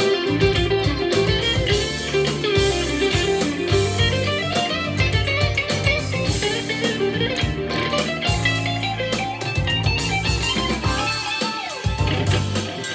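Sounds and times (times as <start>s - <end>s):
electric guitar playing: 0.0s - 12.9s.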